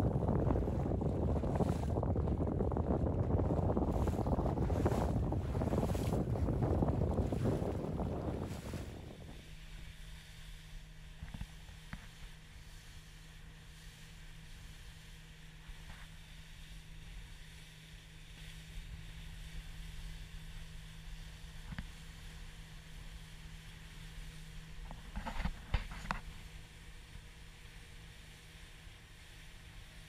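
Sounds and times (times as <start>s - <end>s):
motorboat engine droning: 0.0s - 30.0s
wake rushing on water: 0.0s - 30.0s.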